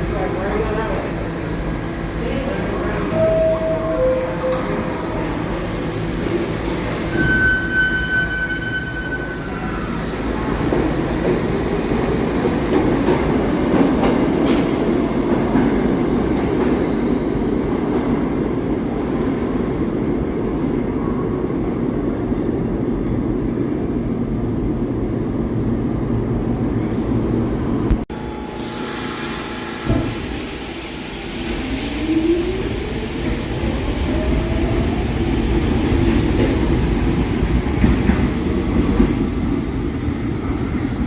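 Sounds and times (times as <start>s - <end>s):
subway train rumbling: 0.0s - 41.0s.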